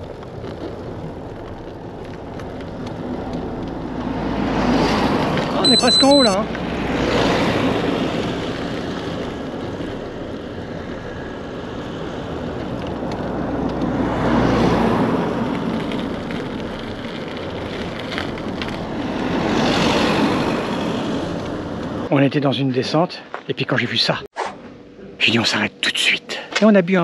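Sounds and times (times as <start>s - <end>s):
bicycle tyre noise: 0.0s - 22.1s.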